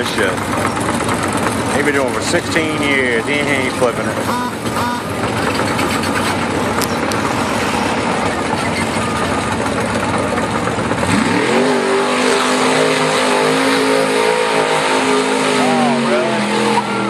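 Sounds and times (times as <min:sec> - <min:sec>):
car engine revving: 0:00.0 - 0:17.0
running engines noise: 0:00.0 - 0:17.0.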